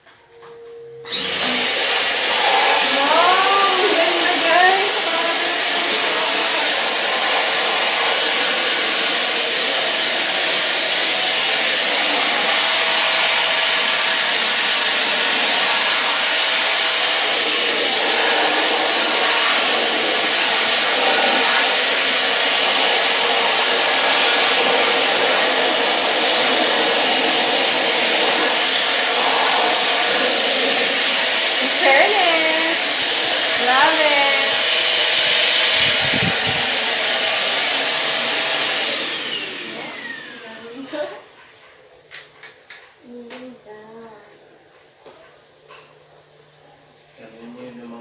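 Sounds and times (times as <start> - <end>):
vacuum cleaner running: 0.0 - 43.2.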